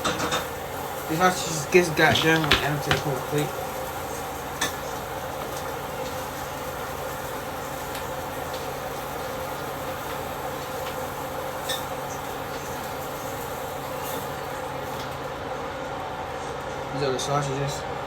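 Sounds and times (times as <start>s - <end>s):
kitchen hum and hiss: 0.0s - 18.0s.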